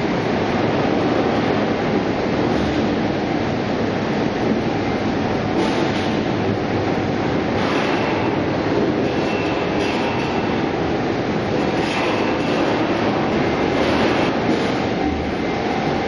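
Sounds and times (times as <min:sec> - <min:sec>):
processing machinery running: 0:00.0 - 0:16.0.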